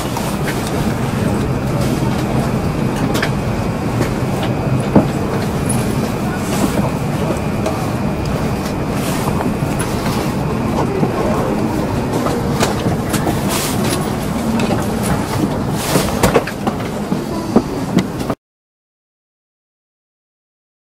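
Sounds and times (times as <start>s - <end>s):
trains and busy station noise: 0.0s - 18.4s.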